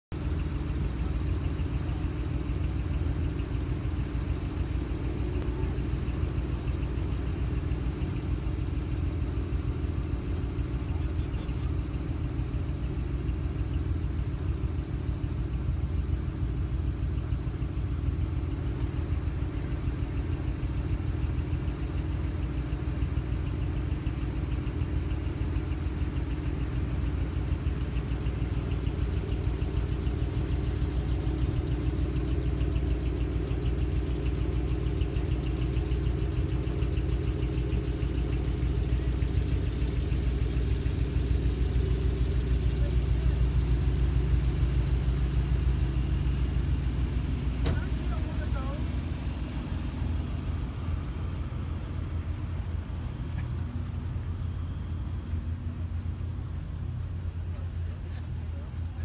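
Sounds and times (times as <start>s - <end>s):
car engines idling: 0.0s - 59.0s.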